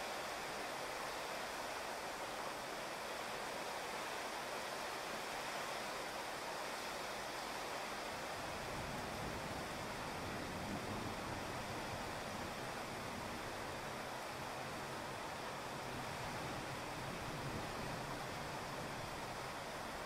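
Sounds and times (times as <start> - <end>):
steady rain on street: 0.0 - 20.0.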